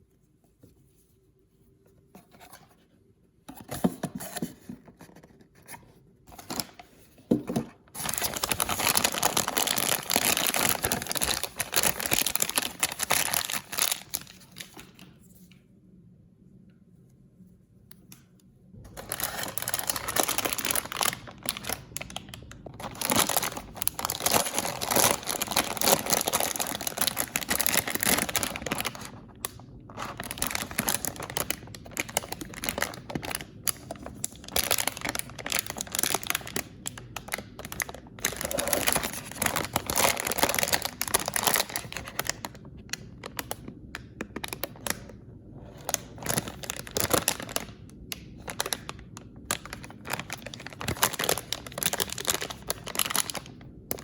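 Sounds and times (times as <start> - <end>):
packaging crinkling and tearing: 3.5 - 15.2, 18.8 - 54.0.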